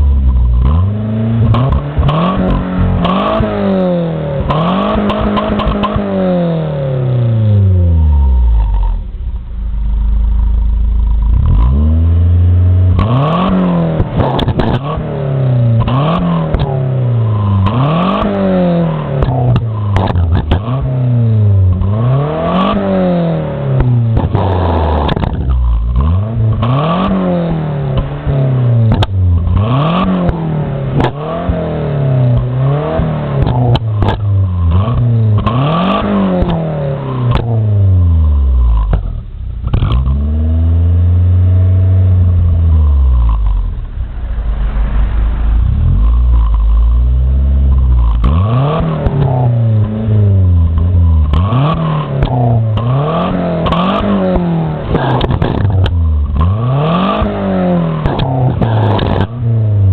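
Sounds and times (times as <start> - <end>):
exhaust pops: 0.0 - 6.6, 7.8 - 59.9
car engine revving: 0.0 - 59.9.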